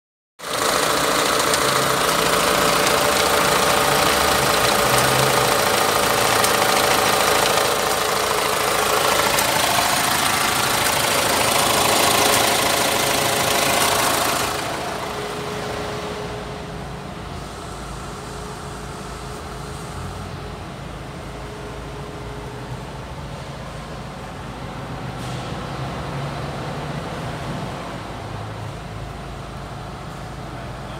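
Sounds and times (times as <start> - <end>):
diesel engine idling: 0.4 - 26.1.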